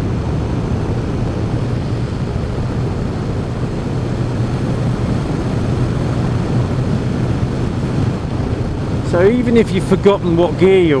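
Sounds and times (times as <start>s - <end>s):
road noise: 0.0s - 11.0s
wind rushing: 0.0s - 11.0s.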